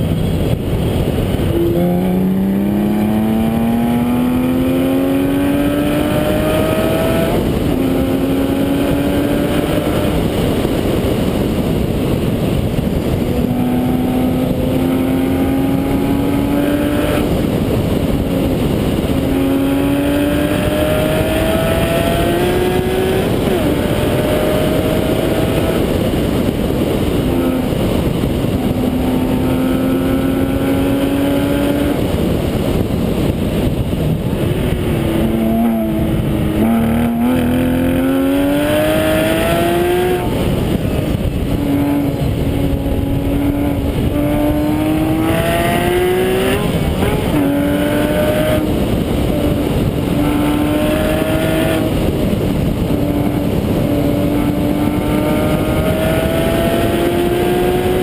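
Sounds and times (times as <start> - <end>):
race car engine at full throttle: 0.0 - 58.0
wind rushing: 0.0 - 58.0.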